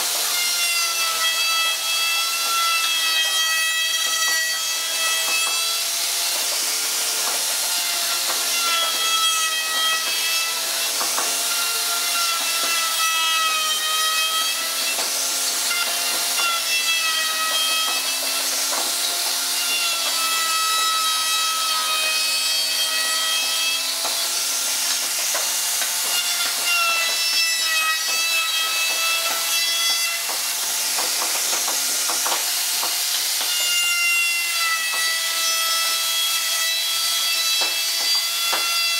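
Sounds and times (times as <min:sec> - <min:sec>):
electric router cutting wood: 0:00.0 - 0:38.9.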